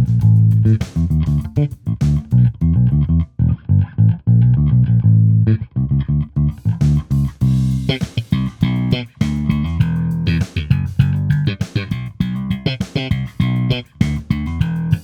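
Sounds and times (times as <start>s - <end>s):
electric bass guitar plucked notes: 0.0s - 15.0s.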